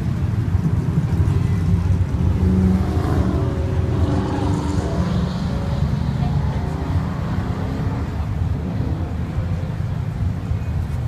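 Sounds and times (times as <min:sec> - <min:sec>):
car engines rumbling in traffic: 0:00.0 - 0:11.0.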